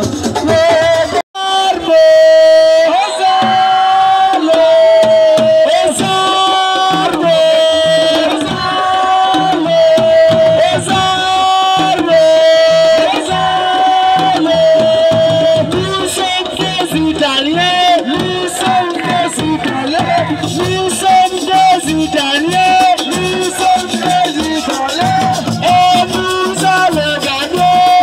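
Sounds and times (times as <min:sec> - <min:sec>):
hand drums: 0:00.0 - 0:01.2, 0:02.0 - 0:28.0.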